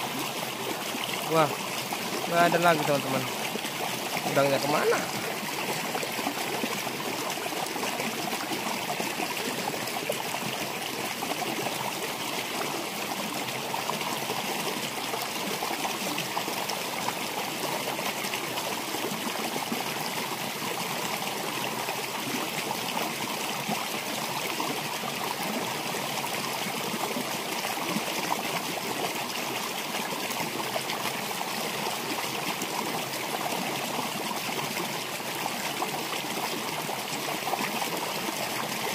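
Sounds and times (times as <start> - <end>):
stream flowing around boulders: 0.0 - 38.9.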